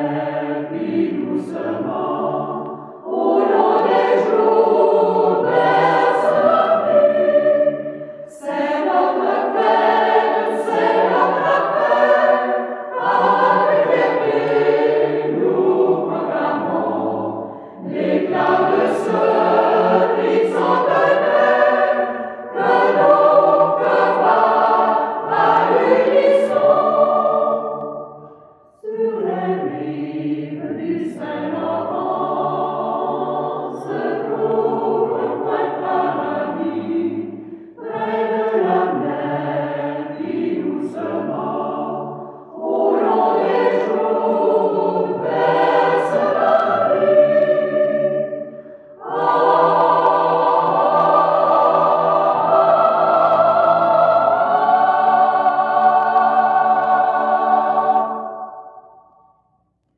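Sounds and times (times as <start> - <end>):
choir singing: 0.0 - 59.6.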